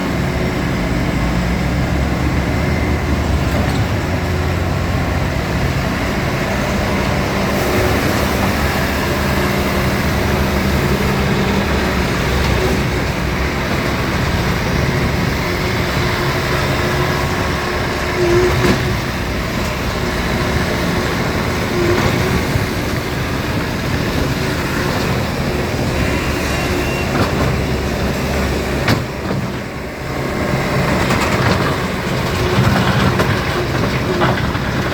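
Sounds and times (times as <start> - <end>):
track loader diesel engine running: 0.0 - 34.9.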